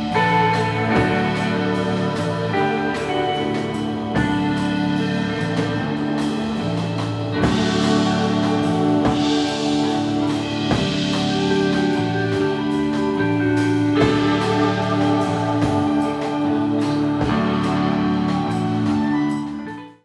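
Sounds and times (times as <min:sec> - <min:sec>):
drums with cymbal wash: 0:00.0 - 0:19.8
live band playing: 0:00.0 - 0:20.0.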